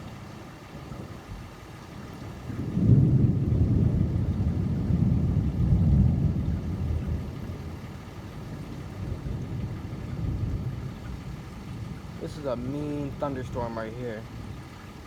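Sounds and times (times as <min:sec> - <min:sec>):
thunder rumbling: 0:02.4 - 0:14.7.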